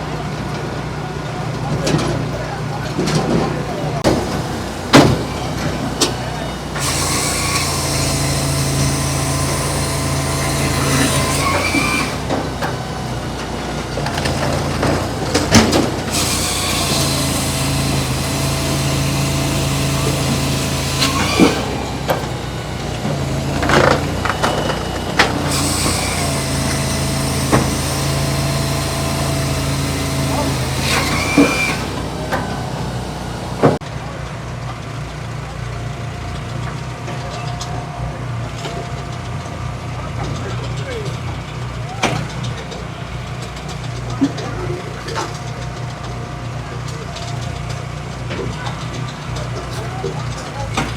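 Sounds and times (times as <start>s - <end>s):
hydraulic log splitter humming: 0.0s - 50.9s.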